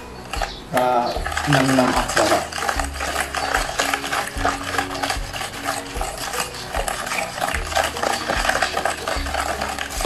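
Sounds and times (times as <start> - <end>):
metal spoon scraping plastic bowl: 0.0 - 10.0.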